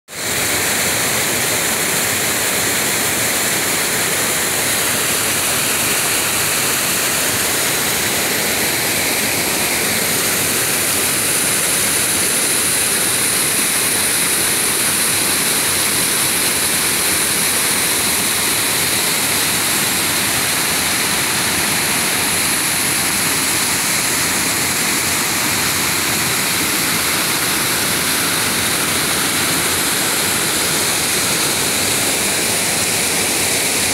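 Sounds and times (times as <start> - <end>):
waterfall splashing into pool: 0.1 - 33.9.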